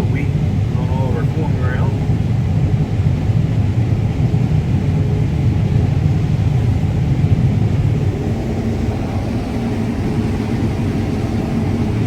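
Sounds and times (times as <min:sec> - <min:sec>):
combine harvester rumble: 0:00.0 - 0:12.0.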